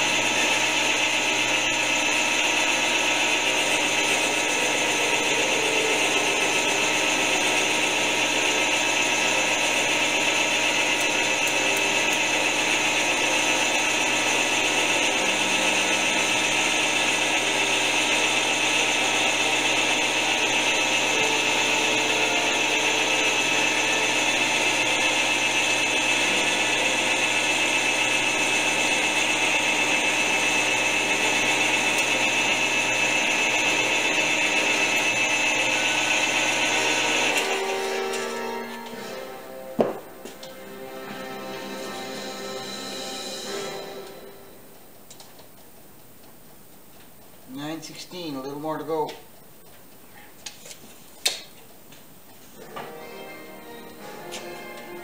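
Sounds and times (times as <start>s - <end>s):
lathe cutting wood: 0.0s - 44.6s
constant high whine: 0.0s - 50.0s.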